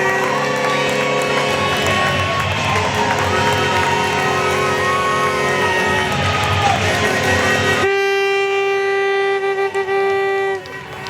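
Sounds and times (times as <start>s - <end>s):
held string notes: 0.0s - 11.0s.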